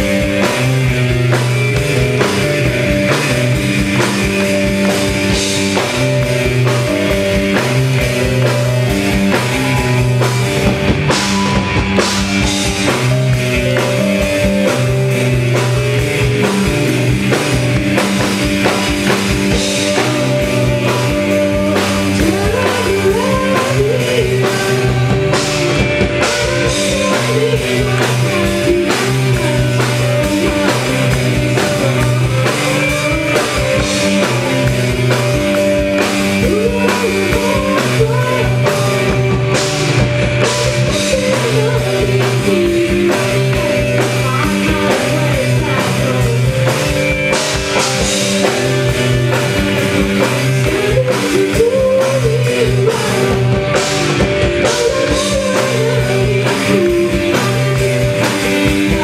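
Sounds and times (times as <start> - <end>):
bass line: 0.0 - 59.0
drum kit: 0.0 - 59.0
keyboard or piano: 0.0 - 59.0
person singing: 0.0 - 59.0.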